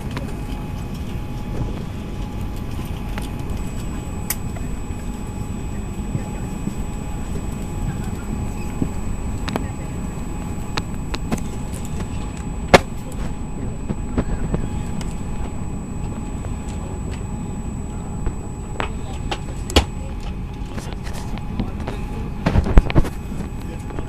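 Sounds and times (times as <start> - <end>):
cabin ventilation and engine rumble: 0.0 - 24.0
faint high whine: 0.0 - 24.0.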